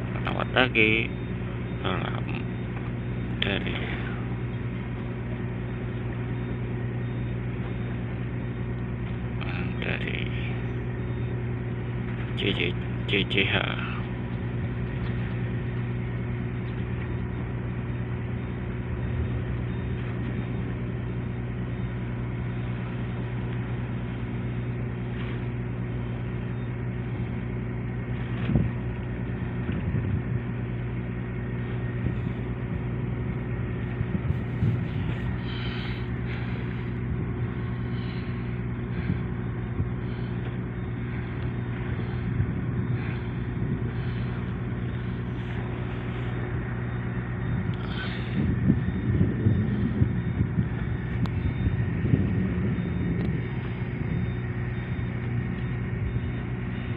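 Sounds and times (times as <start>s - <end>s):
large engine humming steadily: 0.0s - 56.9s.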